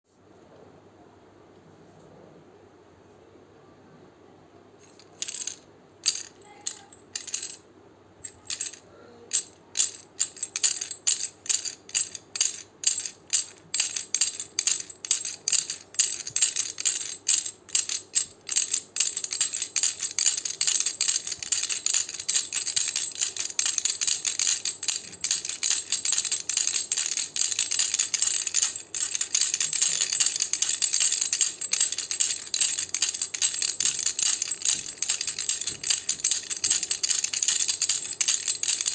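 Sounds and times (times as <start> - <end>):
baby rattle shaking: 4.8 - 7.6, 8.2 - 38.9.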